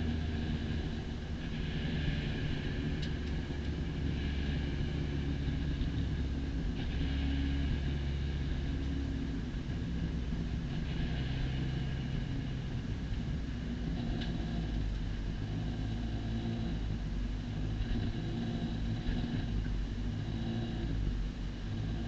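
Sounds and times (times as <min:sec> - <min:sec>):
race car engine running: 0:00.0 - 0:22.0
wind and road noise: 0:00.0 - 0:22.0.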